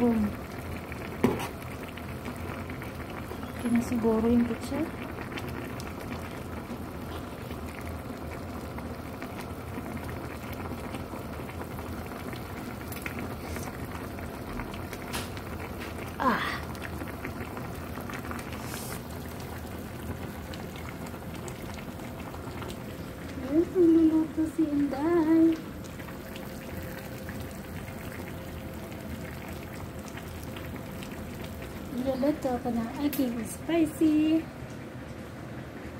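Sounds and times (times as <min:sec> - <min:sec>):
broth bubbling in a pot: 0:00.0 - 0:35.9.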